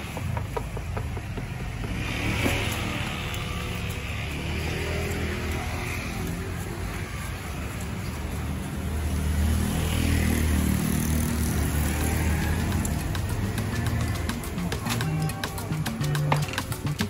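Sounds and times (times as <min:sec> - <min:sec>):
passing vehicles engine rumble: 0:00.0 - 0:17.0.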